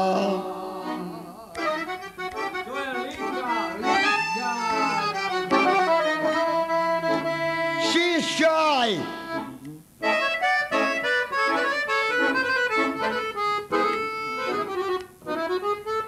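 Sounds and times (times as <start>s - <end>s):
accordion playing melody: 0.0s - 16.0s.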